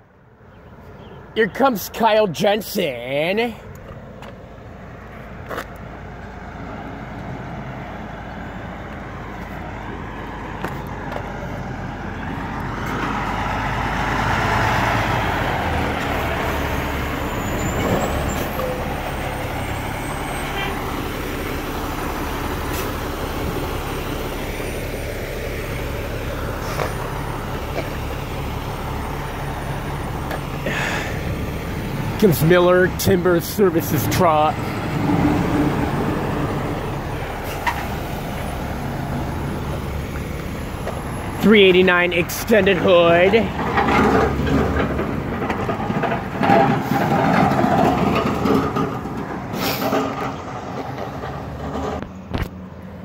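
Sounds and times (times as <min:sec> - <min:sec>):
diesel truck engine rolling past: 0:00.0 - 0:53.0.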